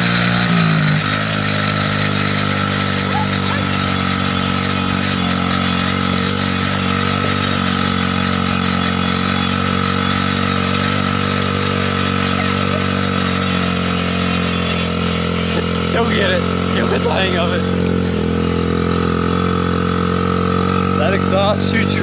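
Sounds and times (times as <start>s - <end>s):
small engine idling: 0.0s - 22.0s.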